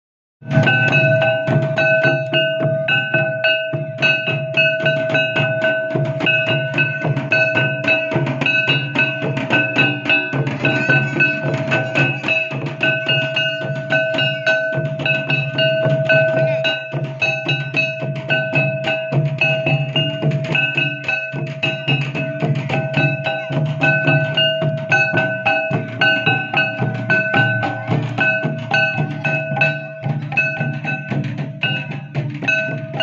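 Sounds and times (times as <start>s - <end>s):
folk drums playing: 0.4s - 33.0s
high repeating melody: 0.5s - 33.0s.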